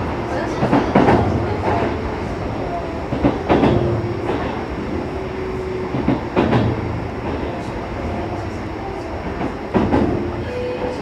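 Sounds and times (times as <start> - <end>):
train wheels rumbling on rail: 0.0 - 11.0
wheels clacking over rail joints: 0.4 - 4.8, 5.9 - 11.0.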